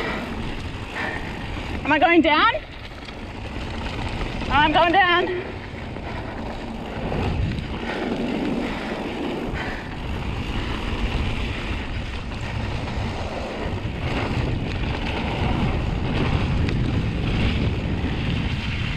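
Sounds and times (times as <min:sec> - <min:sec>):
bike rattling: 0:00.0 - 0:18.9
bike tyres rolling on dirt: 0:00.0 - 0:18.9
wind on microphone: 0:00.0 - 0:18.9.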